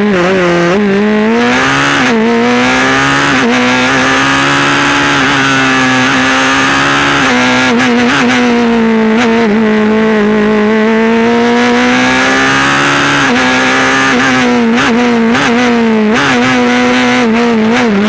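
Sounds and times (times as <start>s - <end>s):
race car engine at full throttle: 0.0s - 18.0s.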